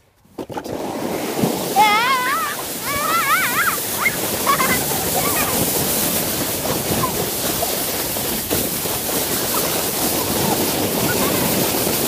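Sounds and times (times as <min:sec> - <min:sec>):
sled rushing over snow: 0:00.2 - 0:12.0
wind buffeting microphone: 0:00.7 - 0:12.0.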